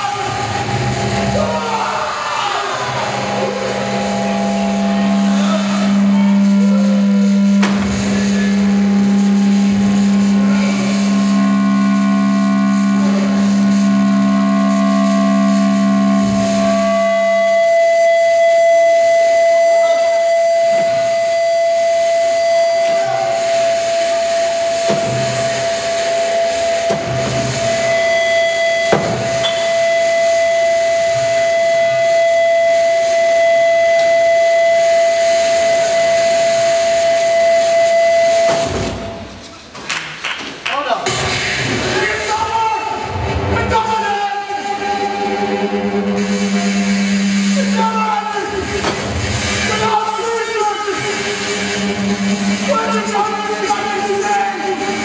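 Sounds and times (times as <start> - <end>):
high ringing feedback whine: 0.0 - 39.4, 41.1 - 55.0
loud low feedback drone: 0.0 - 39.4, 41.1 - 55.0.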